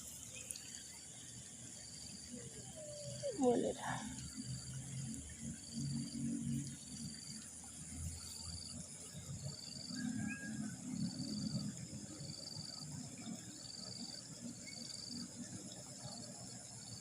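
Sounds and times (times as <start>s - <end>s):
high-pitched insect drone: 0.0s - 17.0s
insect trilling chirp: 0.0s - 17.0s.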